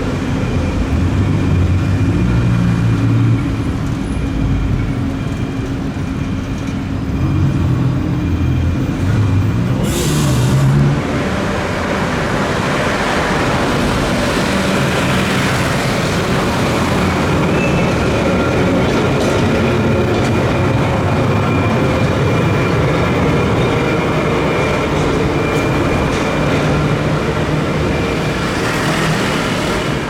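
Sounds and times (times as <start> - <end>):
wheels rumbling on rails: 0.0 - 30.0.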